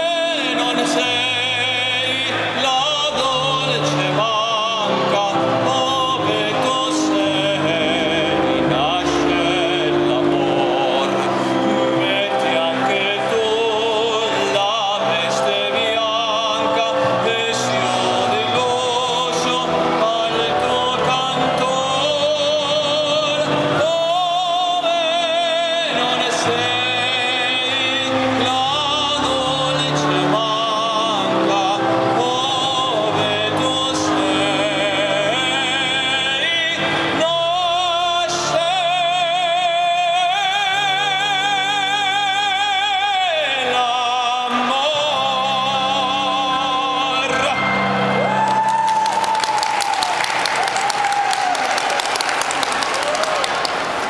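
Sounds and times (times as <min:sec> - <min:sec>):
man singing operatic song: 0:00.0 - 0:50.0.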